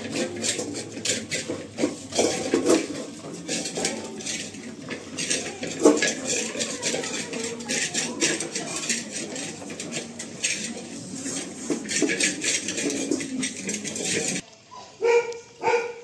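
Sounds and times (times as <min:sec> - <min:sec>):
metal bowls clinking and scraping: 0:00.0 - 0:14.4.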